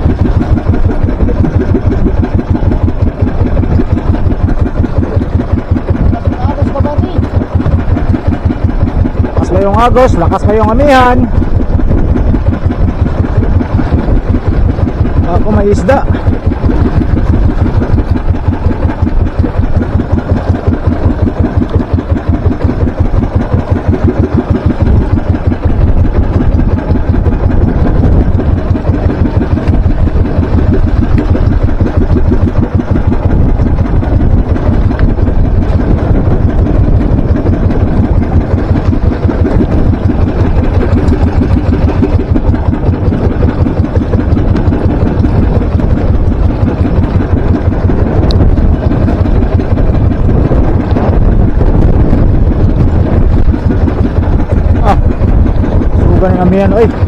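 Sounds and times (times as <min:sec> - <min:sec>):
hull pushing through choppy water: 0:00.0 - 0:57.0
small boat engine running: 0:00.0 - 0:57.0.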